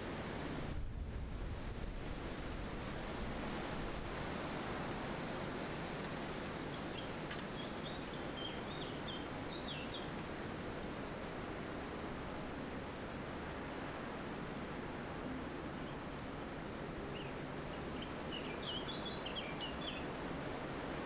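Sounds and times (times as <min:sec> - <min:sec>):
wind rushing through trees: 0:00.0 - 0:21.0.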